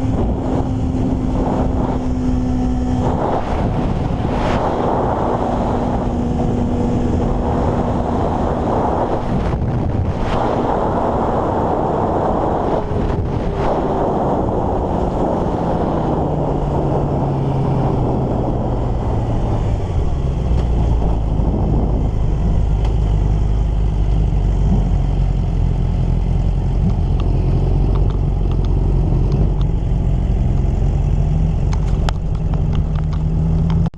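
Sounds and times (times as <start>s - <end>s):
heavy wind rush: 0.0s - 33.9s
racing motorcycle engine running: 0.0s - 33.9s.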